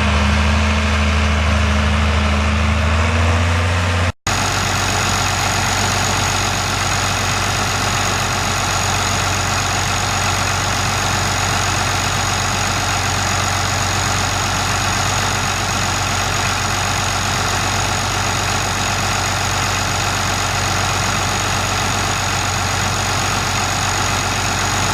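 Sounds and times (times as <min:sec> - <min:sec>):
tractor engine idling: 0:00.0 - 0:24.9.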